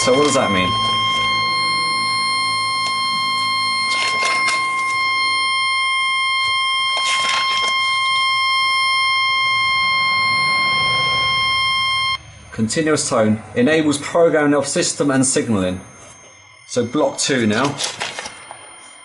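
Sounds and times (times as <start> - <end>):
steady high-pitched alarm beep: 0.0 - 19.0.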